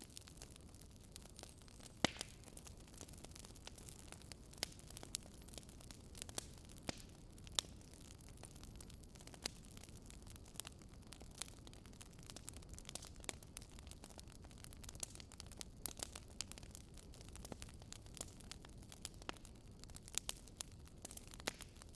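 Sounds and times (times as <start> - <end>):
bonfire crackling and popping: 0.0 - 21.9
low rumble of flames: 0.0 - 21.9.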